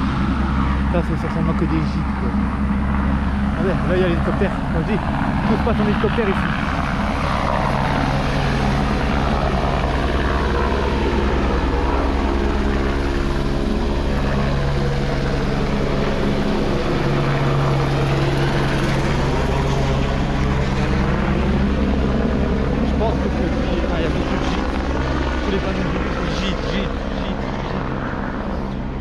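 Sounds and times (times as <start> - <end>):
helicopter running: 0.0 - 29.0.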